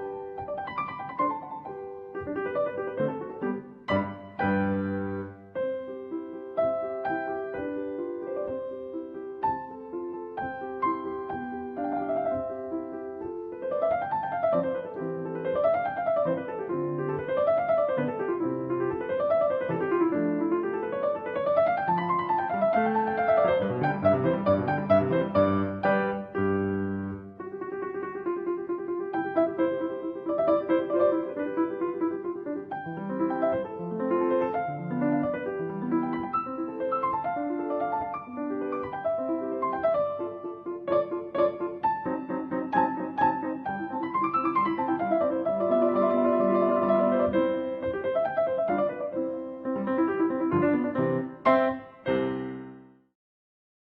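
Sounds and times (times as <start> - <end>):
piano music: 0.0 - 53.1.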